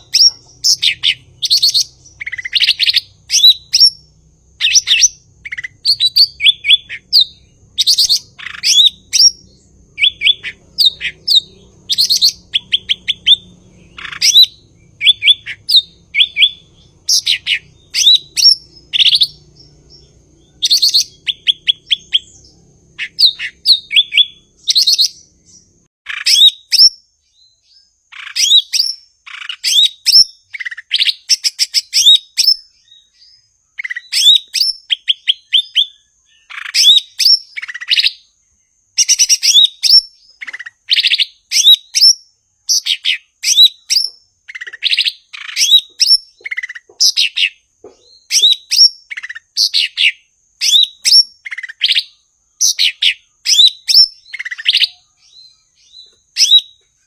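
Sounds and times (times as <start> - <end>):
bird singing high chirps: 0.0 - 57.0.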